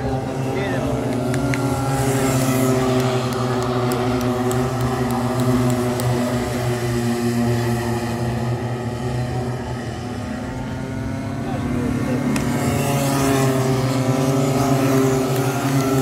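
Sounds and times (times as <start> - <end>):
kart engines racing: 0.0 - 16.0.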